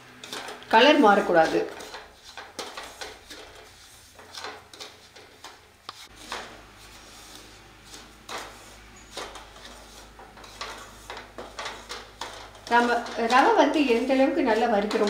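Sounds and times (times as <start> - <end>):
spatula scraping pan: 0.0 - 15.0.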